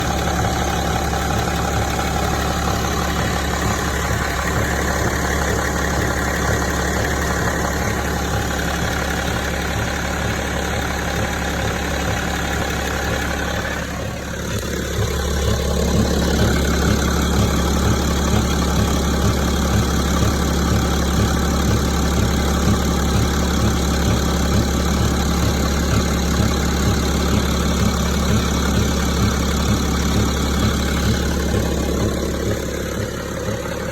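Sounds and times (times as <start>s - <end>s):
diesel engine idling with knock: 0.0s - 33.9s.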